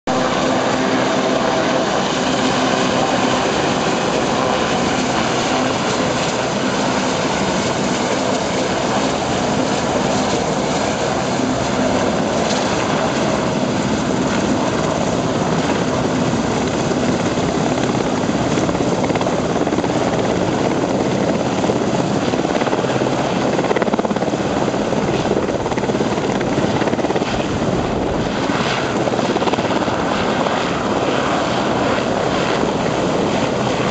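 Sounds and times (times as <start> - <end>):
helicopter hovering: 0.0 - 33.9.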